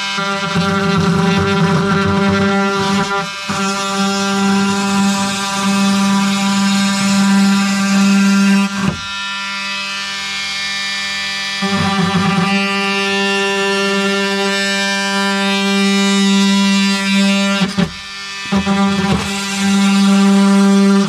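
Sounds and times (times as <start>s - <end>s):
oscillating multi-tool buzzing: 0.0s - 21.0s.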